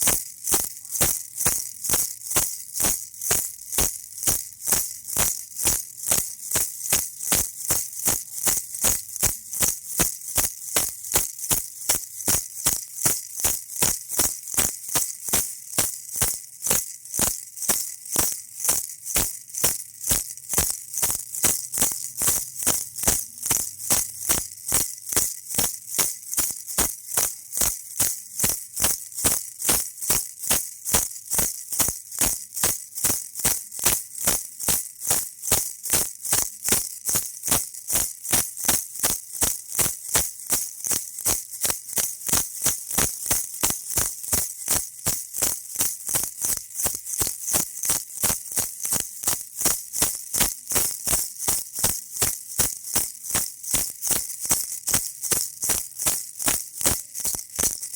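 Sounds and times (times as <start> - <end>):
baby rattle shaking: 0.0 - 57.9.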